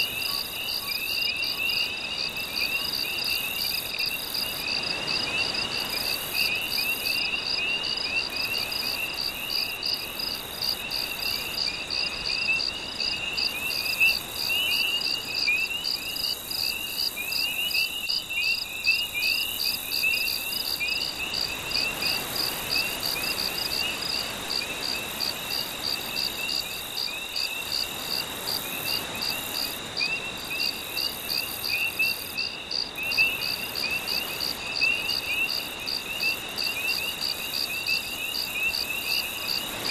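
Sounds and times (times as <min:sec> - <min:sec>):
crickets chirping: 0:00.0 - 0:39.9
insect trill: 0:00.0 - 0:39.9.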